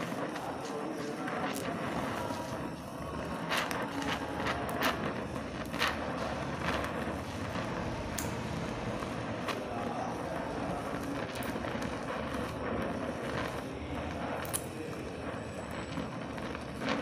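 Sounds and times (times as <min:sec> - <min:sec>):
sharp crackles and pops: 0:00.0 - 0:17.0
welding torch flame hissing: 0:00.0 - 0:17.0.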